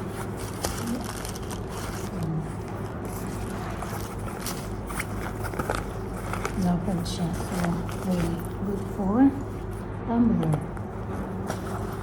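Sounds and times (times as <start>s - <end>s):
item being handled scraping: 0.0s - 9.9s, 11.0s - 12.0s
steady low hum: 0.0s - 12.0s.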